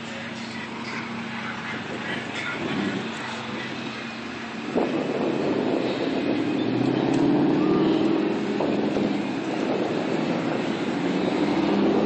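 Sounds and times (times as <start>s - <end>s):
street traffic: 0.0s - 12.0s
wind and road noise: 0.0s - 12.0s.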